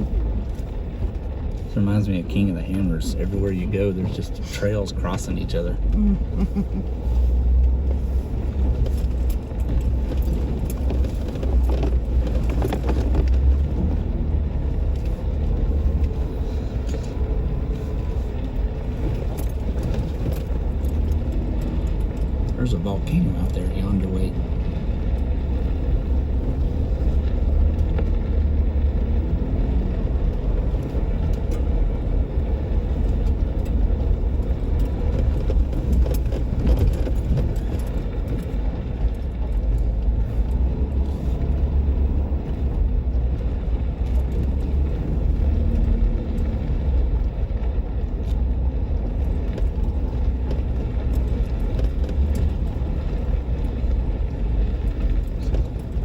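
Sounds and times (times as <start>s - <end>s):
engine and tyres rumbling: 0.0s - 56.0s.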